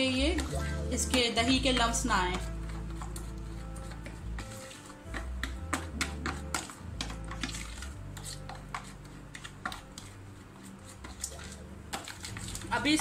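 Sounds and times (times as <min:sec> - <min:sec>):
spoon scraping plastic container: 0:00.3 - 0:13.0.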